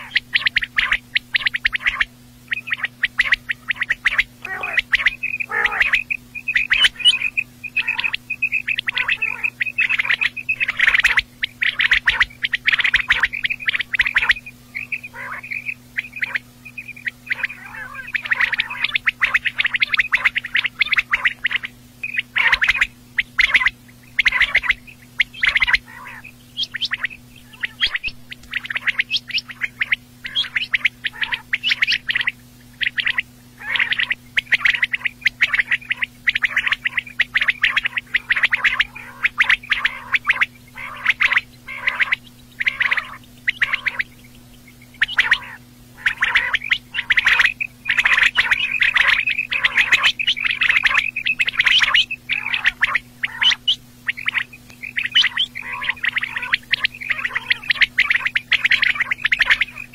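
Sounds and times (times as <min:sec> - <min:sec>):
quail chirping: 0:00.0 - 0:59.9.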